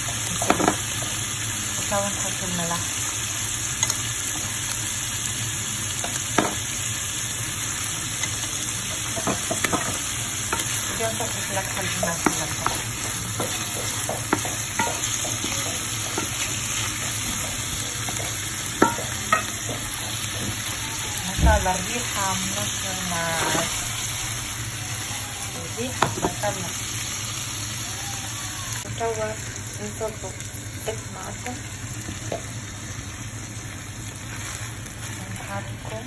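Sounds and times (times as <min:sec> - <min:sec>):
seafood sizzling in frying pan: 0:00.0 - 0:36.0.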